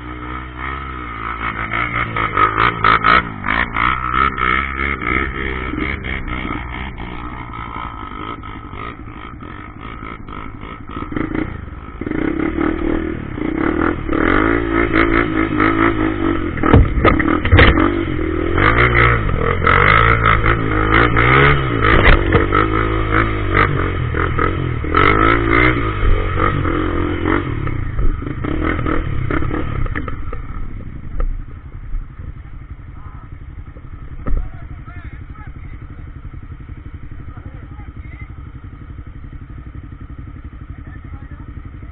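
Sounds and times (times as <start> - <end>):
motorcycle engine revving: 0.0 - 41.9
bike rattling over bumps: 0.6 - 41.9.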